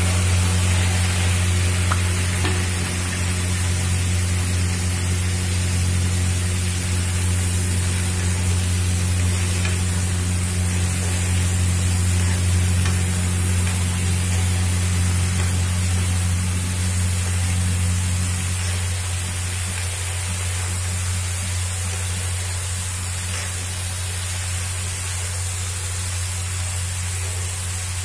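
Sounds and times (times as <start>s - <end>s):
potatoes sizzling in pan: 0.0s - 28.0s
steady low hum: 0.0s - 28.0s.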